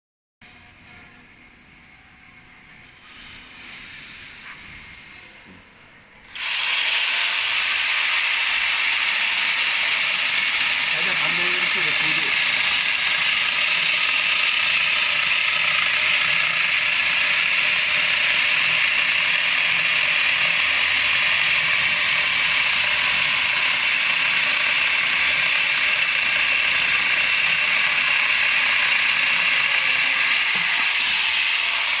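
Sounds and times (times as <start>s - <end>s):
cordless power tool whirring: 6.2s - 32.0s.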